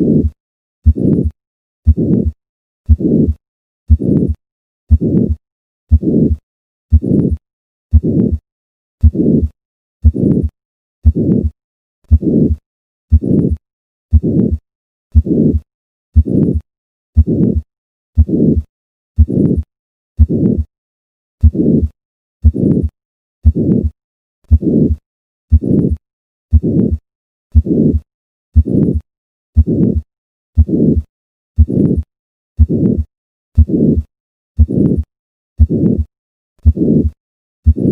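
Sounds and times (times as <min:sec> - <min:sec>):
harsh heart murmur: 0:00.0 - 0:08.4, 0:09.0 - 0:15.6, 0:16.2 - 0:20.7, 0:21.4 - 0:28.0, 0:28.6 - 0:29.0, 0:29.6 - 0:37.9
heartbeat through stethoscope: 0:00.0 - 0:08.4, 0:09.0 - 0:20.7, 0:21.4 - 0:37.9.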